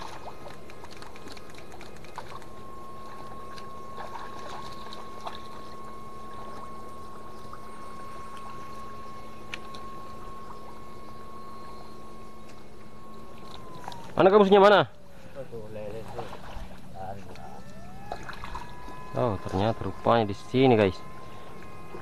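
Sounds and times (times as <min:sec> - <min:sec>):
power unit whining: 0:00.0 - 0:22.0.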